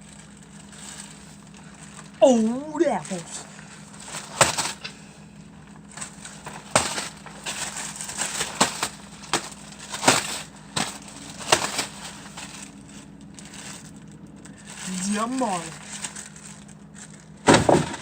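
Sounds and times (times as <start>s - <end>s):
items knocking and crackling: 2.9s - 5.0s, 5.6s - 18.0s.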